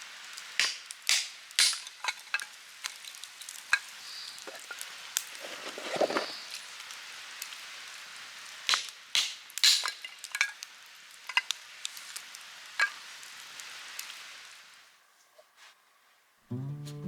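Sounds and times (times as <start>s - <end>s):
wood fire hissing and crackling: 0.0s - 16.5s.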